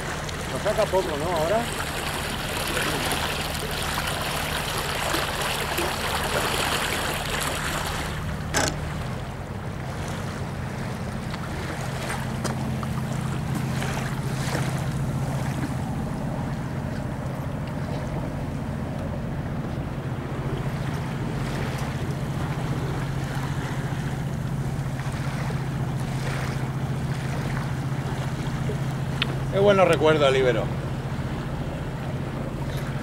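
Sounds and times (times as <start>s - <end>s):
motorboat engine humming: 0.0s - 33.0s
water rushing along hull: 0.0s - 33.0s.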